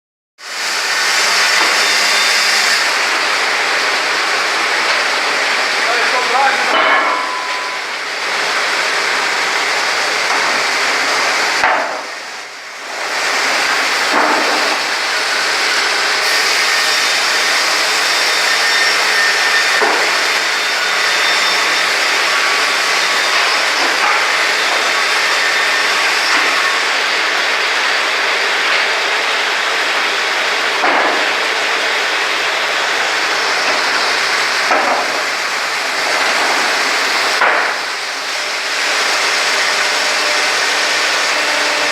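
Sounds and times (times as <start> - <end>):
band sawmill hissing: 0.4 - 41.9.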